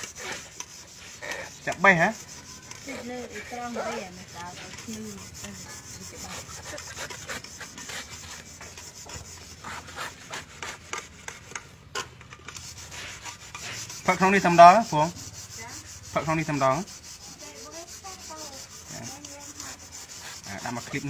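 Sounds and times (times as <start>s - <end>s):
coconut husk being scraped: 0.0s - 21.0s.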